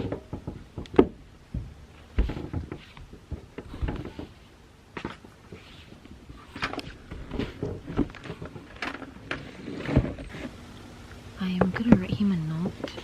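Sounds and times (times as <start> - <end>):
handling knocks and clicks: 0.0 - 10.5.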